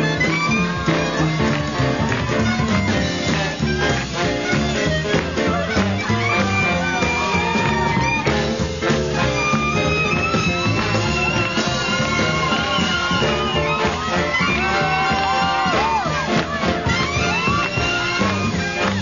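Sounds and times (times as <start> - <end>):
swing jazz band playing: 0.0 - 19.0.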